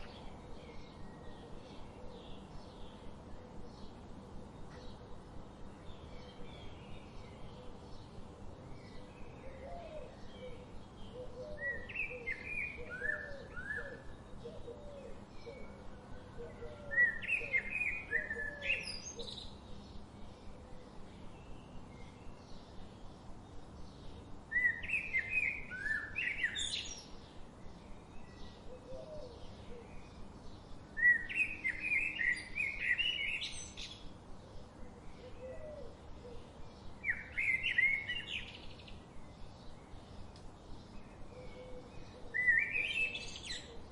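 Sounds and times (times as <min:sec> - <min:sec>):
soft repeated lower bird call: 0:00.0 - 0:05.2, 0:05.8 - 0:23.0, 0:23.7 - 0:43.9
background hiss: 0:00.0 - 0:43.9
songbirds singing: 0:00.0 - 0:43.9.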